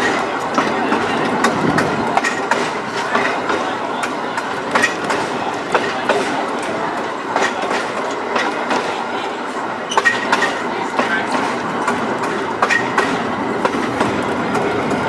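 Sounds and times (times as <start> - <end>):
wheels clicking over rail joints: 0.0 - 9.0, 9.8 - 15.0
streetcar running noise: 0.0 - 15.0.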